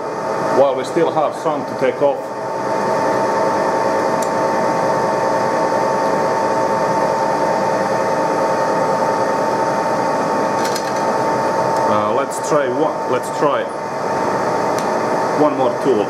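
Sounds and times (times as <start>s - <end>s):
lathe running with whine: 0.0s - 16.0s.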